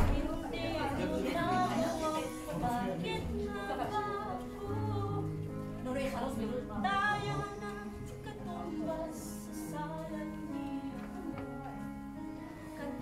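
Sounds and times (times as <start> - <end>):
instrumental accompaniment: 0.0 - 13.0
woman singing: 0.0 - 13.0.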